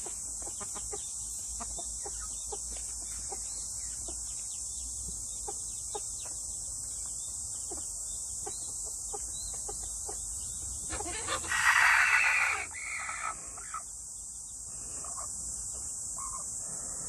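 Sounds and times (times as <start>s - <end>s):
chickens clucking: 0.0s - 13.9s, 14.9s - 16.6s
chickens pecking ground: 0.0s - 13.9s, 14.9s - 16.5s
high-pitched insect drone: 0.0s - 17.0s.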